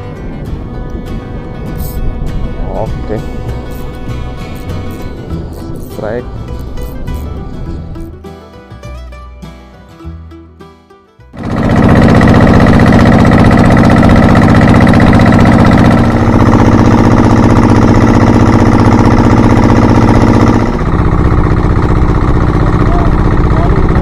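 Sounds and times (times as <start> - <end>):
boat engine running: 0.0 - 8.2, 11.3 - 24.0.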